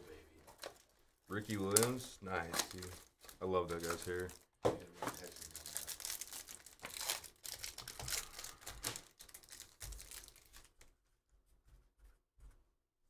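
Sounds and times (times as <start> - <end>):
cards rustling: 0.4 - 10.9
plastic wrapper crinkling: 0.5 - 11.0.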